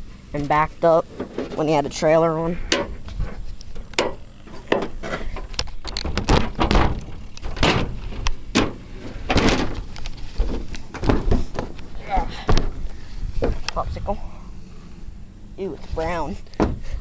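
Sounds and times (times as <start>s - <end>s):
scraping rustle: 0.0s - 17.0s
knocks clunks and rattles: 0.9s - 14.5s, 15.7s - 17.0s.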